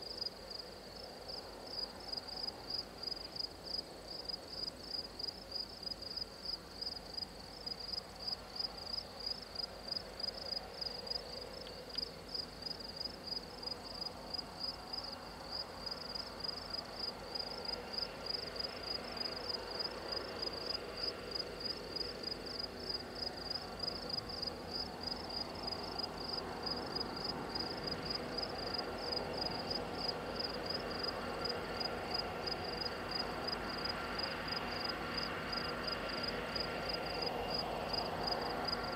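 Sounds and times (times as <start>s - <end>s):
insects chirping in a trill: 0.0s - 38.9s
approaching freight train: 7.3s - 38.9s.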